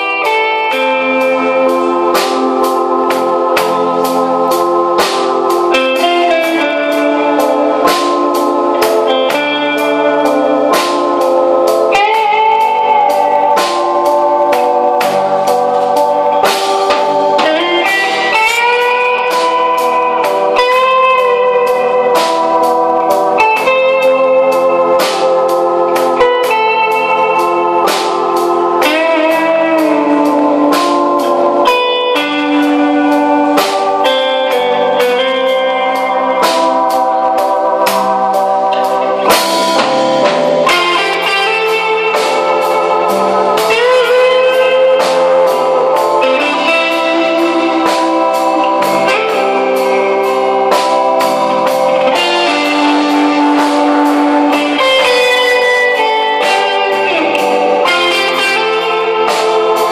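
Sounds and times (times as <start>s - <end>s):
electric lead guitar melody: 0.0s - 59.9s
rock band playing: 0.0s - 59.9s.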